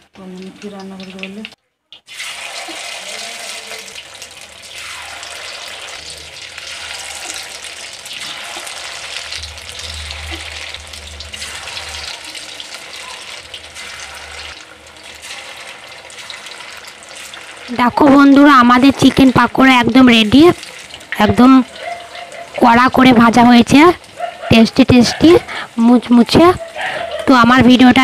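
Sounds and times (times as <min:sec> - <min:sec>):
hot oil sizzling and bubbling: 0:00.0 - 0:28.0.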